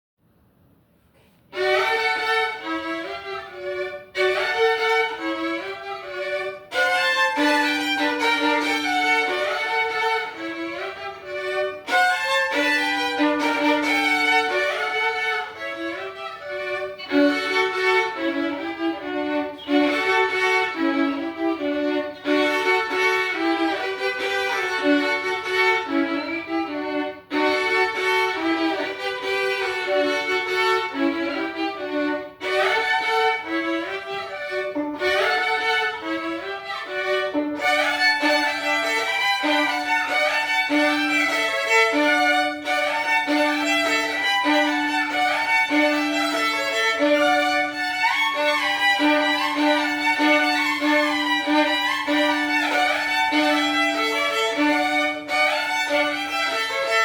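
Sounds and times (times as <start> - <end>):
solo violin playing double stops: 1.1 - 57.0.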